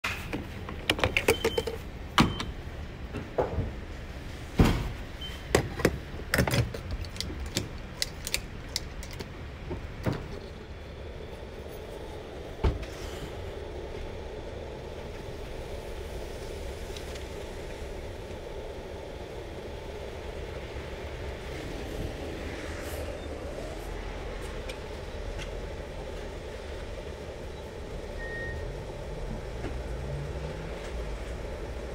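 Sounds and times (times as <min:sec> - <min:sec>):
low vehicle hum: 0:00.1 - 0:31.9.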